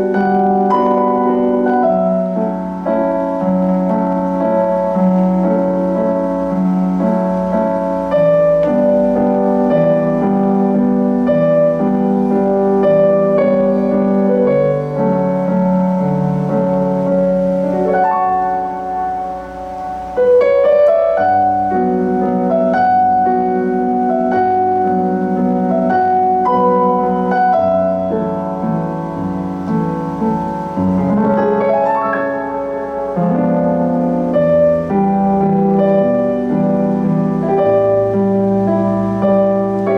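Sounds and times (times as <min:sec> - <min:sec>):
solo piano chords and melody: 0:00.0 - 0:39.9.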